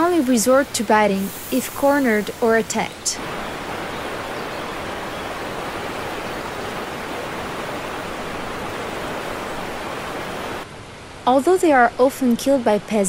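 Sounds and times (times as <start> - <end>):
water rushing: 0.0 - 11.9.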